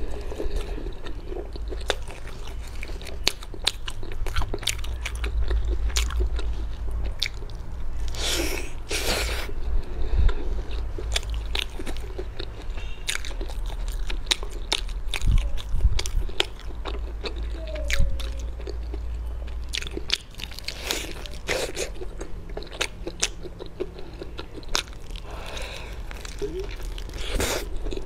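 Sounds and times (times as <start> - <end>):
crunching fried chicken batter: 0.0 - 9.6, 10.7 - 28.0
soft chewing: 0.0 - 28.0.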